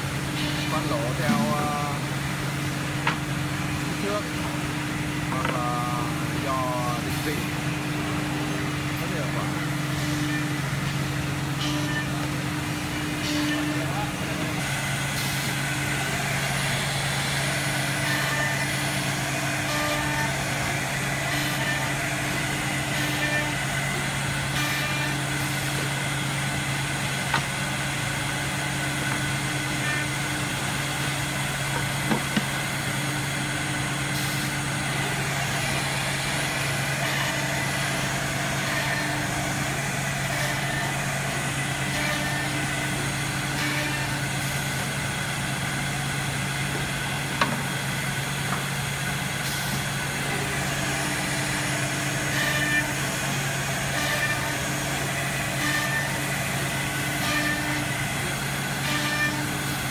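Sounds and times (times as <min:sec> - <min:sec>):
drilling machine hum: 0:00.0 - 0:59.9.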